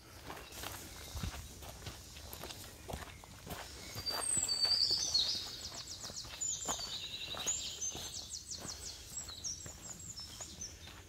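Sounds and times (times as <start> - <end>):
footsteps on dirt and rock: 0.0 - 11.0
songbirds singing: 0.0 - 11.0.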